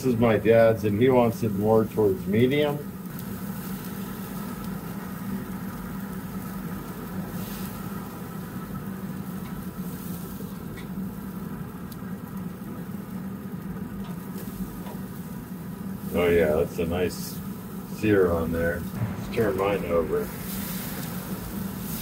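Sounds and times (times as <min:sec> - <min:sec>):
grill fan humming: 0:00.0 - 0:22.0
steaks sizzling on grill: 0:00.0 - 0:22.0.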